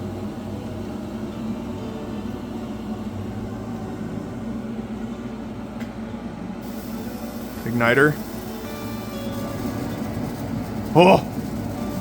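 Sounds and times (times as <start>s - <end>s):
heater exhaust fan humming: 0.0s - 12.0s.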